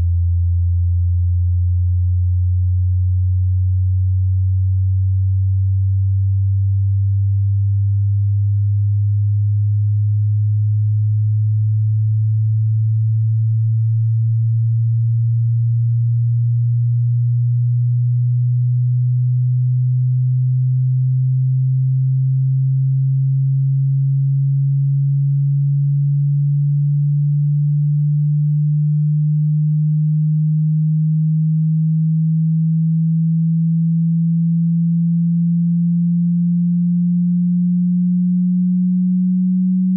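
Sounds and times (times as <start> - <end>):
sine tone rising in pitch: 0.0 - 39.9.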